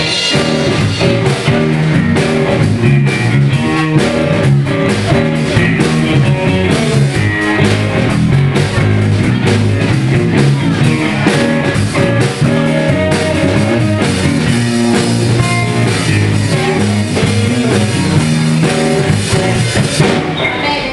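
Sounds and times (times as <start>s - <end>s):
drum kit: 0.0s - 20.9s
electric guitar: 0.0s - 20.9s.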